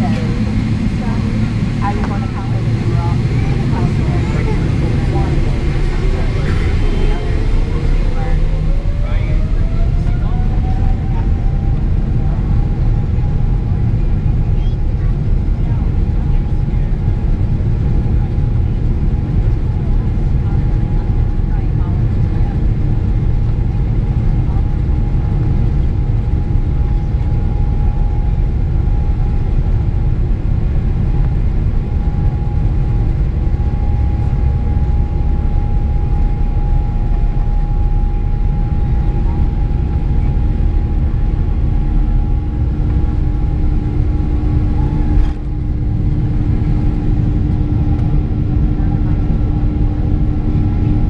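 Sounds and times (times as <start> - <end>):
jet engines rumbling with whine: 0.0 - 51.0
lower engine whine: 0.0 - 51.0.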